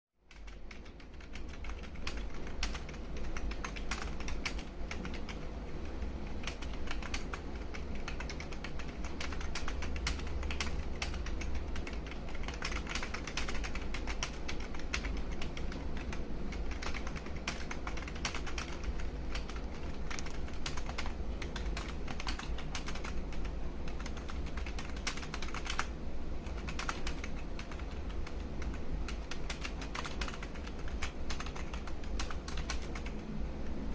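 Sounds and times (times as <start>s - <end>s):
steady low hum: 0.2s - 33.9s
keyboard keys clicking: 0.3s - 33.1s.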